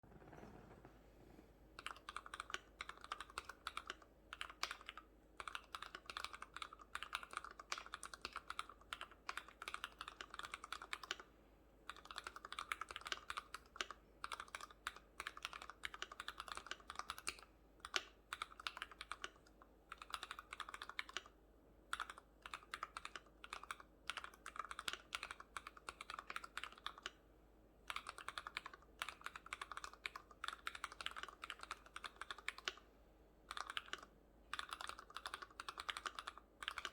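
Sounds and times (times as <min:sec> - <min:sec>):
fast typing on mechanical keyboard: 0:01.8 - 0:11.3, 0:11.9 - 0:27.2, 0:27.9 - 0:32.8, 0:33.5 - 0:36.9.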